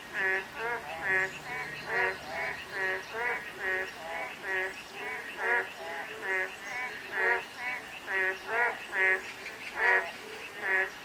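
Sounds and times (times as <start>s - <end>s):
frogs croaking: 0.0s - 11.0s.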